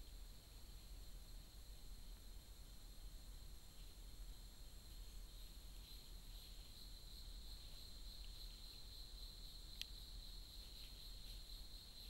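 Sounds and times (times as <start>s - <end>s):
insects trilling in chorus: 0.0s - 12.0s.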